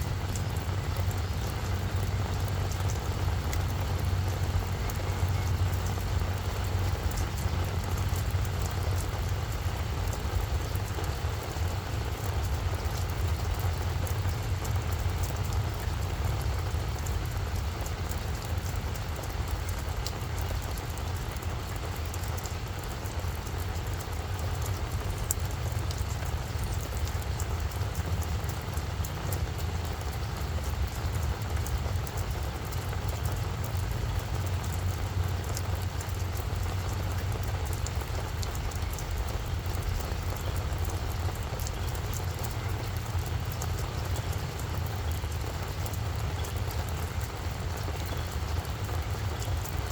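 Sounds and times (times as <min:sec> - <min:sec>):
constant low rumble: 0:00.0 - 0:49.9
raindrop ticks: 0:00.0 - 0:49.9
steady rain falling: 0:00.0 - 0:49.9.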